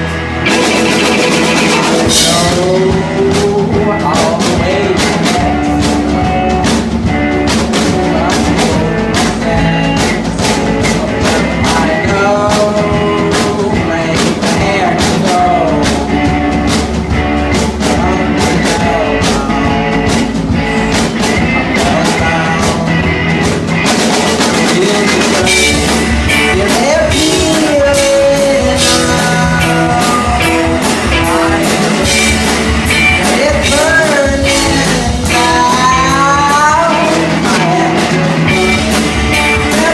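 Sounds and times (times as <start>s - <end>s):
drum kit beat: 0.0s - 39.9s
electric guitar lead: 0.0s - 39.9s
rock band playing: 0.0s - 39.9s.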